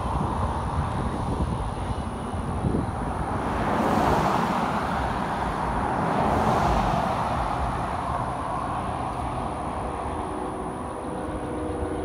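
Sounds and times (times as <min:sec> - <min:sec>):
passing vehicles rumbling: 0:00.0 - 0:12.0.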